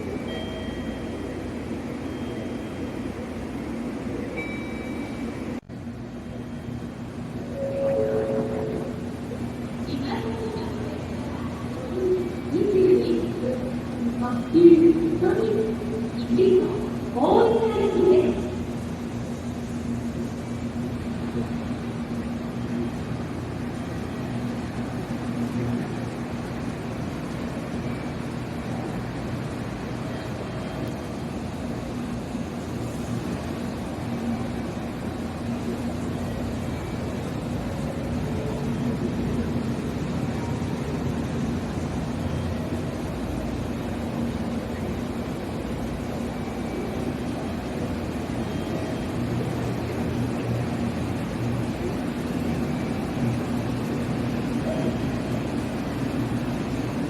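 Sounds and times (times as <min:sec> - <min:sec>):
train humming: 0:00.0 - 0:57.0.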